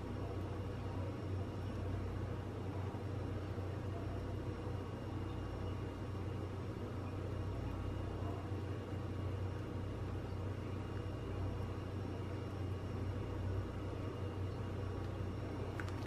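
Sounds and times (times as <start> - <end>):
faint constant hiss: 0.0 - 16.0.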